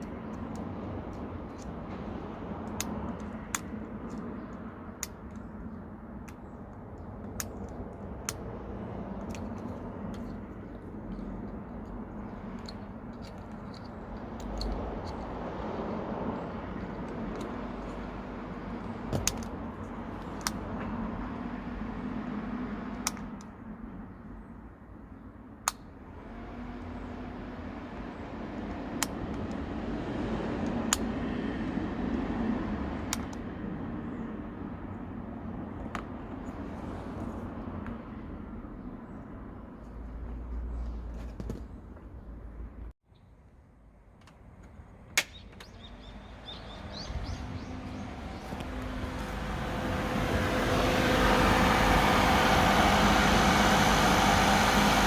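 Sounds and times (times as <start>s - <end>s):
engine humming: 0.0s - 24.3s, 26.0s - 42.9s, 45.4s - 55.0s.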